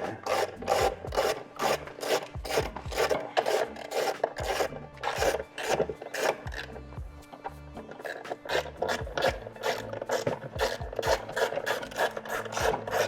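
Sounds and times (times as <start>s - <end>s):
socket wrench ratcheting: 0.0s - 13.0s.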